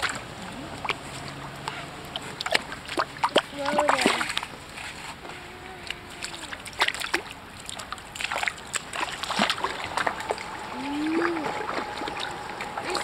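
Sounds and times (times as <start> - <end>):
duck splashing in shallow water: 0.0 - 13.0.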